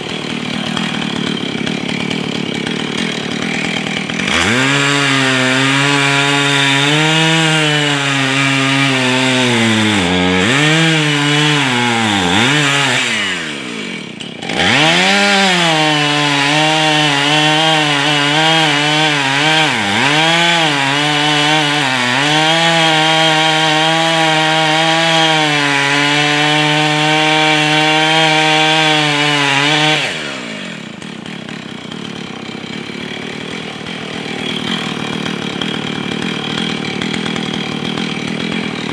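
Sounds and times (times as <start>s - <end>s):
chainsaw cutting at full throttle: 0.0s - 38.9s.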